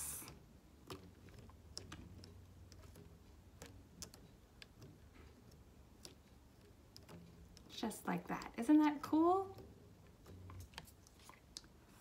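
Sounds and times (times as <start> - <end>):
stick flicking rubber bands: 0.0 - 12.0.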